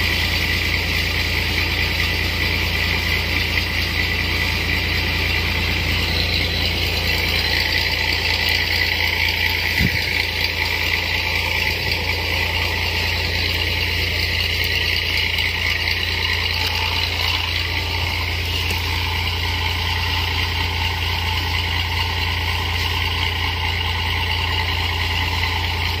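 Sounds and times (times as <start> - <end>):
crop sprayer engine hum: 0.0 - 26.0.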